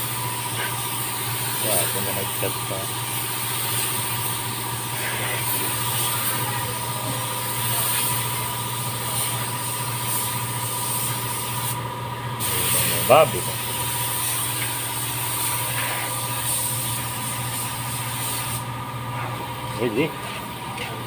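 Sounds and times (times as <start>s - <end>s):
spray gun hissing: 0.0s - 11.8s, 12.4s - 18.7s
steady low hum: 0.0s - 21.0s.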